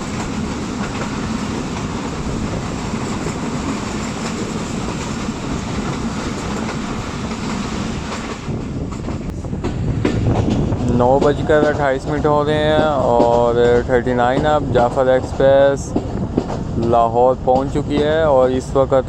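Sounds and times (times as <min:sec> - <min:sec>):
wheels clattering over rails: 0:00.0 - 0:18.4
train rumbling: 0:00.0 - 0:19.0.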